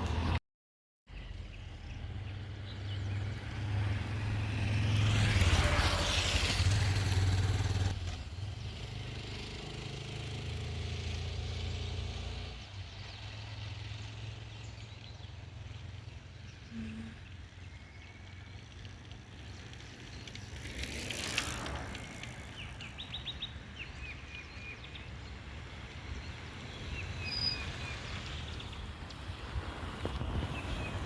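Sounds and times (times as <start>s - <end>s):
road noise: 0.0s - 0.4s, 1.1s - 31.0s
motor vehicle rumble: 1.1s - 31.0s.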